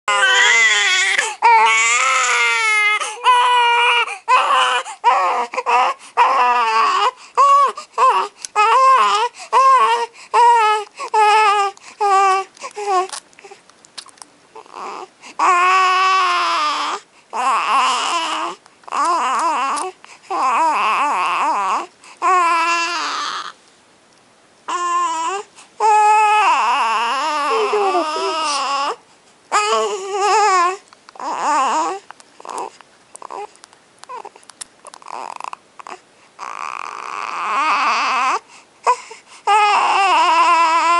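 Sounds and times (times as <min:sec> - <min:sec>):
baby crying: 0:00.1 - 0:13.1, 0:14.6 - 0:23.6, 0:24.7 - 0:40.9.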